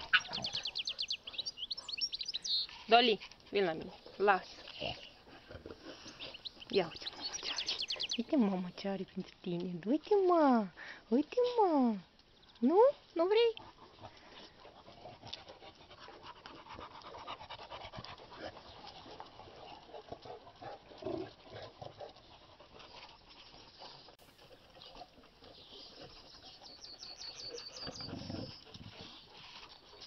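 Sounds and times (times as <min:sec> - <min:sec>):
dogs panting: 0:00.0 - 0:09.1, 0:12.9 - 0:30.0.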